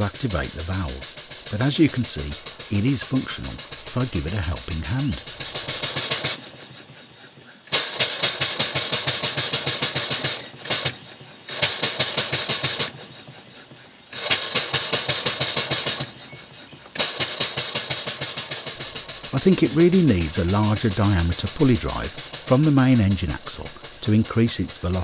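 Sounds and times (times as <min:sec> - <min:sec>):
model steam engine exhaust beats: 0:00.0 - 0:25.0.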